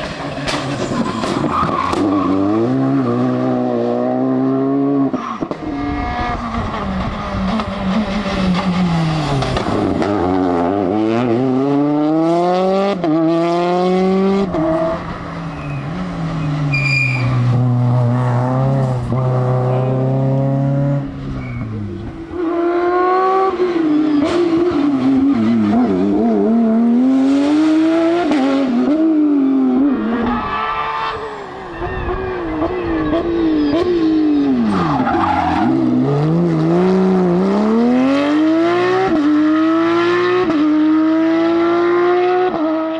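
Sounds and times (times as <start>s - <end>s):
rally car engines accelerating past: 0.0s - 42.9s.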